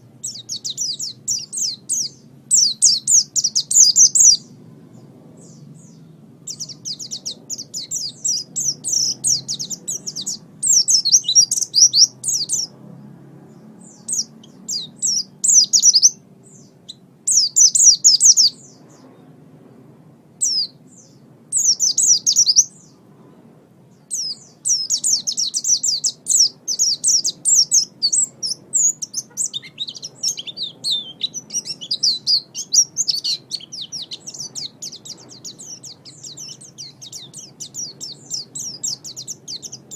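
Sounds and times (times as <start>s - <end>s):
bird twittering song: 0.0s - 12.8s, 13.4s - 19.4s, 20.4s - 23.1s, 23.9s - 39.9s.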